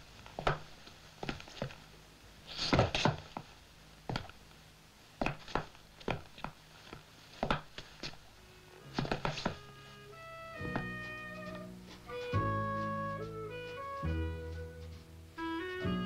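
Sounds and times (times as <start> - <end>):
footsteps on outdoor steps: 0.0 - 4.5, 5.2 - 9.8, 10.6 - 16.0.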